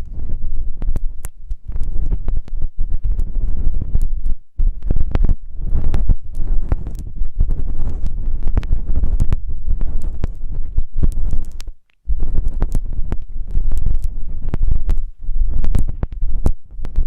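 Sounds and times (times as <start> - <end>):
rubbing and scratching on microphone: 0.0 - 17.0.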